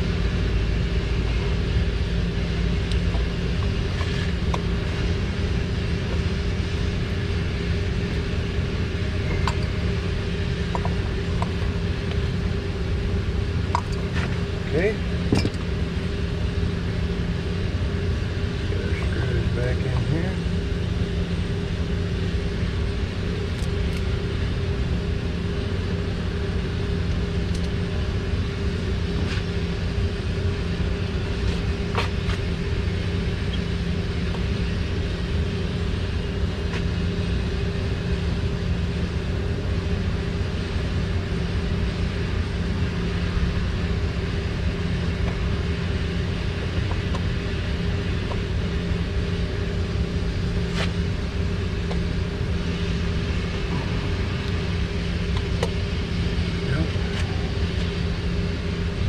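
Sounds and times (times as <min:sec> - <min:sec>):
low machine drone: 0:00.0 - 0:59.0.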